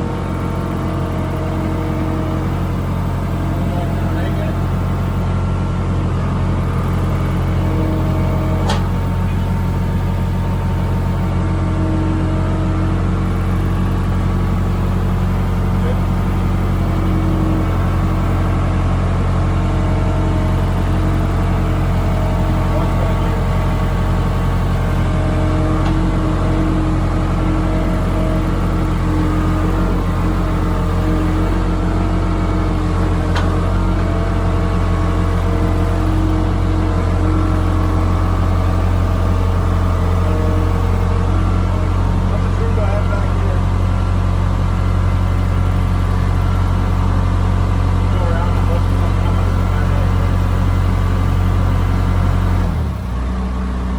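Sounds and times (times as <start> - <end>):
loader engine running: 0.0 - 53.9.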